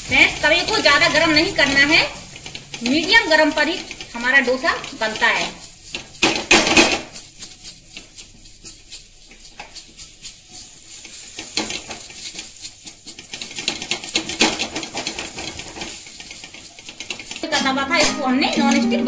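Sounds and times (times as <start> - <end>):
onion scraping across oiled griddle: 0.0 - 18.6.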